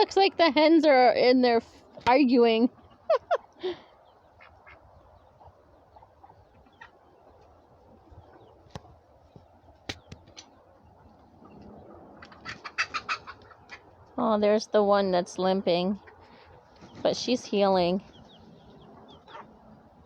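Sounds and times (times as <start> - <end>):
chickens and turkeys calling: 2.6 - 14.2, 14.9 - 20.0.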